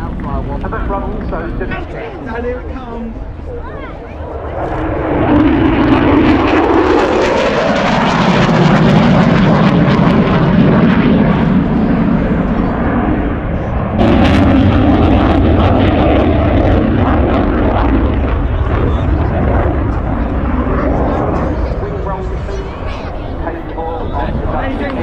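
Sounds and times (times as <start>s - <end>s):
propeller aircraft engines droning: 0.0s - 25.0s.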